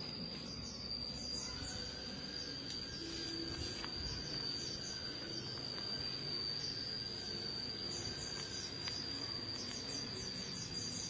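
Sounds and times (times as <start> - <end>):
high-pitched insect trill: 0.0 - 11.0
short rapid insect chirps: 0.0 - 11.0.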